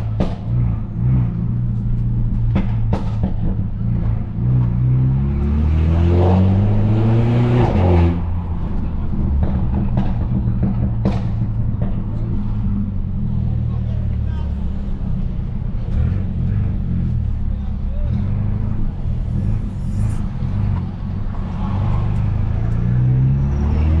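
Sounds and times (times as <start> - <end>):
car exhaust accelerating: 0.0 - 24.0.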